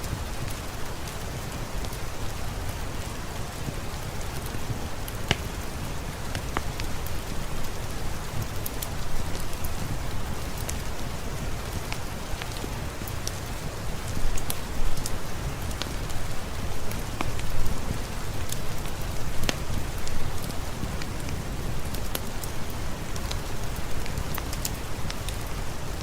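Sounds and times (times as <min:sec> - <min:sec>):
fireplace crackling: 0:00.0 - 0:26.0
steady rainfall: 0:00.0 - 0:26.0.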